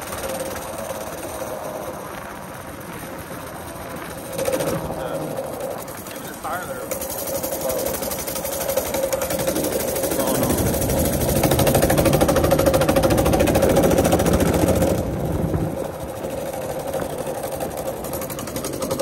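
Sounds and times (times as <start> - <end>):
minibike engine revving: 0.0 - 19.0.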